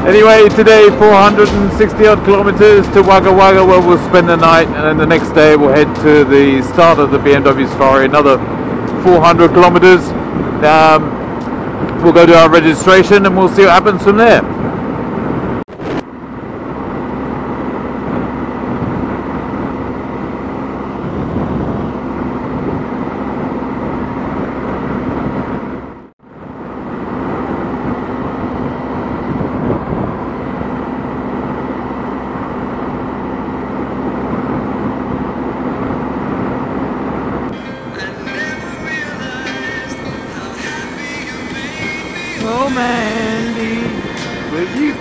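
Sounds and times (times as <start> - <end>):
motorcycle engine drone: 0.0 - 45.0
wind and road noise: 0.0 - 45.0.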